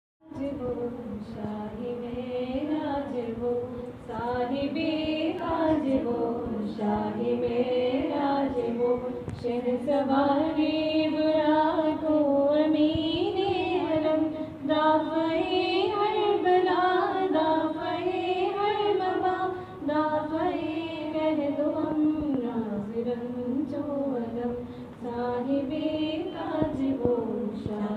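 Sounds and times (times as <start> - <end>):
woman singing unaccompanied: 0.2 - 27.9.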